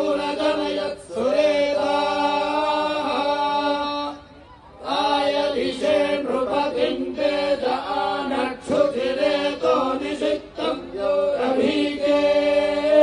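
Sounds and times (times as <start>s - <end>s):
group of men chanting in unison: 0.0s - 13.0s.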